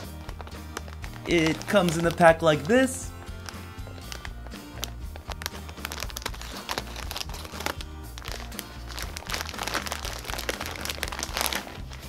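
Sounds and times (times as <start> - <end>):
background music: 0.0 - 12.0
plastic bag crinkling: 0.0 - 12.0.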